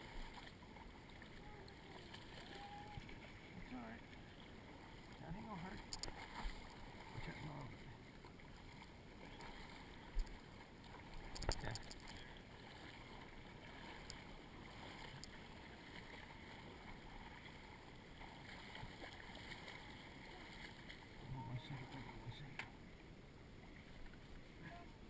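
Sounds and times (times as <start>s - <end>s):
water sloshing and splashing: 0.0s - 25.0s.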